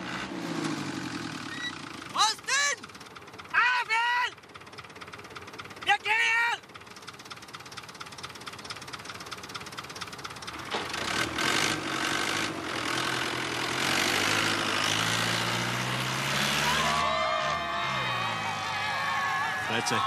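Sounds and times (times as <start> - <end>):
diesel tractor engine: 0.0 - 20.0.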